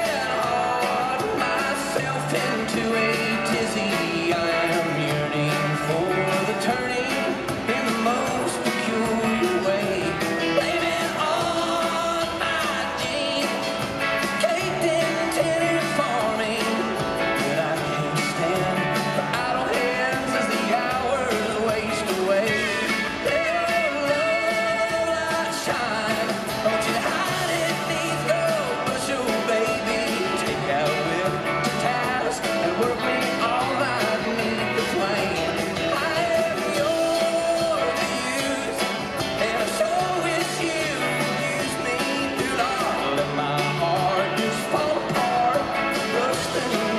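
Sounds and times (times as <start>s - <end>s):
country-rock band playing: 0.0s - 46.9s
man singing into a microphone: 0.0s - 46.9s.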